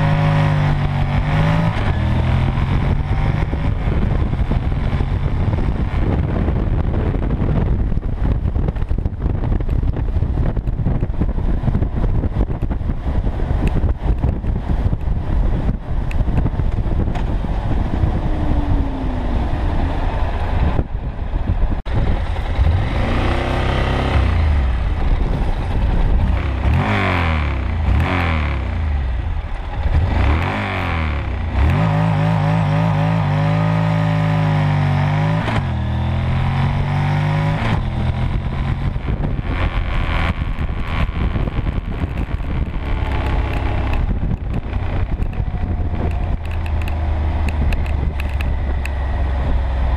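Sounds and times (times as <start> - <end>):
motorcycle engine accelerating: 0.0 - 49.9
wind noise: 0.0 - 49.9.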